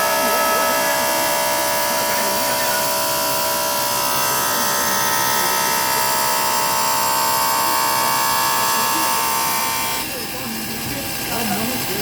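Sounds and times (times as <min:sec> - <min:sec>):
stone-cutting machine whine: 0:00.0 - 0:12.0.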